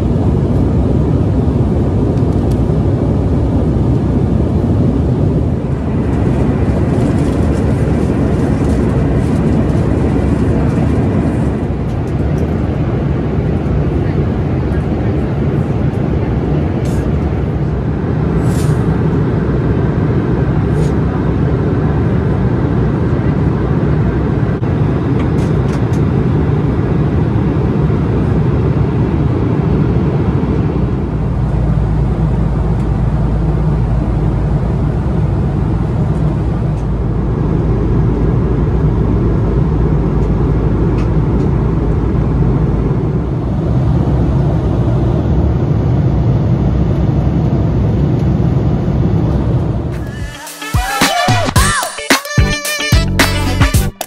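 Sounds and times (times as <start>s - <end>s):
airliner cabin engine rumble: 0.0s - 50.4s.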